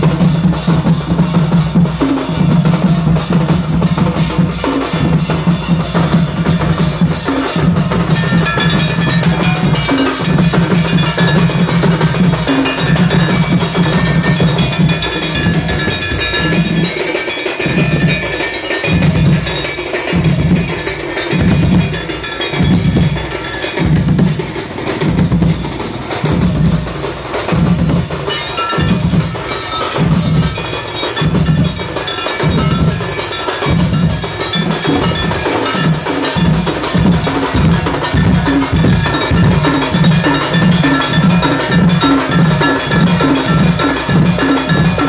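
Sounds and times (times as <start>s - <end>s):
barrel drums beating: 0.0s - 45.0s
metal gongs clanging: 0.1s - 45.0s.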